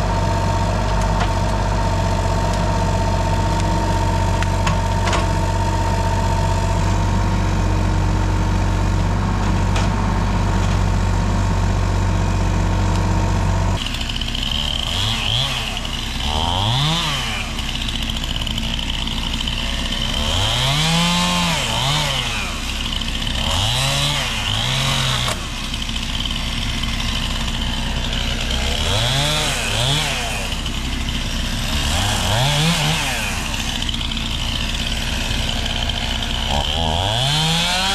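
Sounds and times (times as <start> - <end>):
chainsaw cutting and revving: 0.0 - 37.9
excavator diesel engine running: 0.0 - 37.9.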